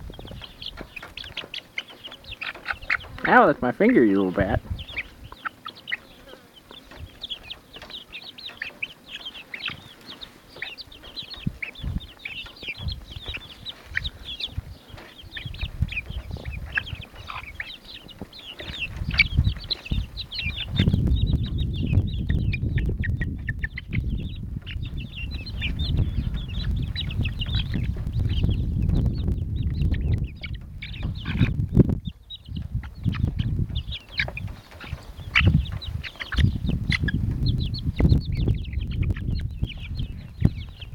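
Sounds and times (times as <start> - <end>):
chicks cheeping and clucking: 0.0 - 40.9.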